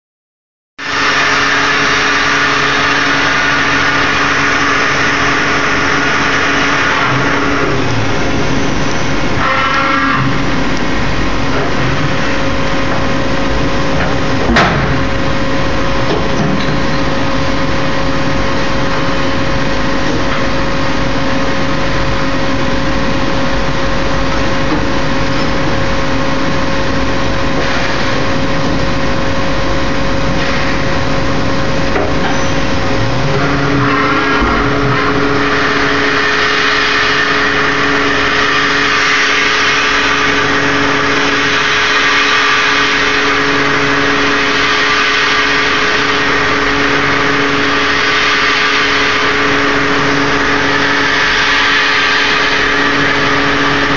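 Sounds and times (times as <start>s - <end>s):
milling machine whine and hum: 0.8s - 53.9s.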